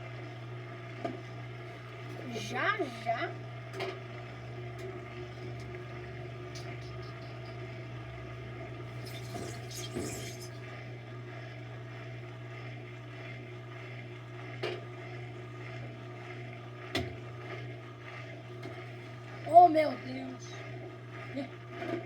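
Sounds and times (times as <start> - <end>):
washing machine spinning: 0.0 - 22.0.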